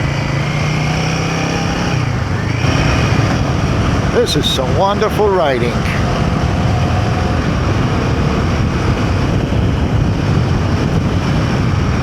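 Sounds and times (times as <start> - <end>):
motorcycle engine running: 0.0 - 12.0
wind rush over microphone: 1.2 - 12.0.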